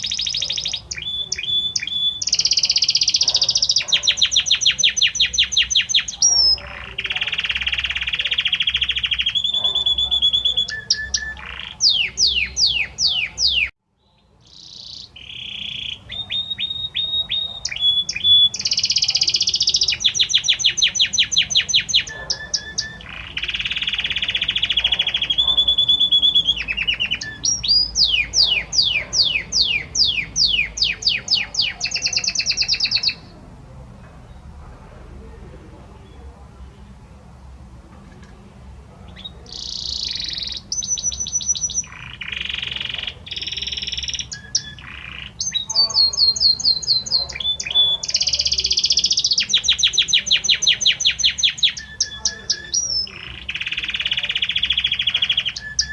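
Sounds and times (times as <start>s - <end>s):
canary singing trills: 0.0s - 36.8s, 37.6s - 55.9s.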